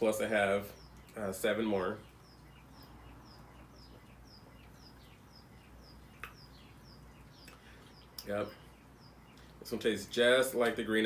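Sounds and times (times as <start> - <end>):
bird chirping faintly: 0.0 - 11.0.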